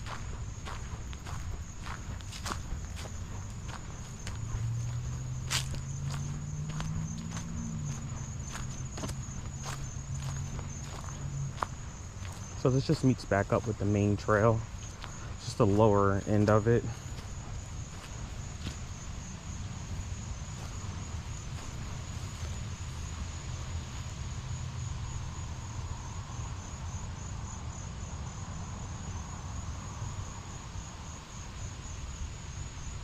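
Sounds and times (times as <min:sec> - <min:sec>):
insects chirping pulsing trill: 0:00.0 - 0:33.0.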